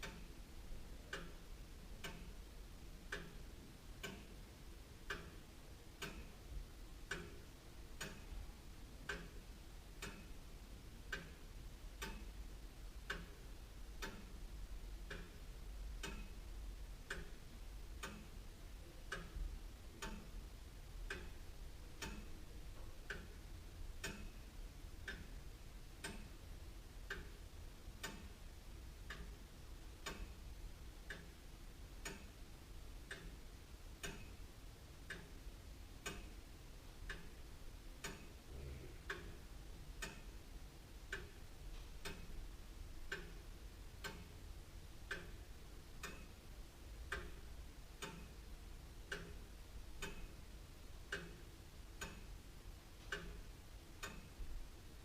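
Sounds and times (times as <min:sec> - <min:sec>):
clock ticking: 0:00.0 - 0:55.0.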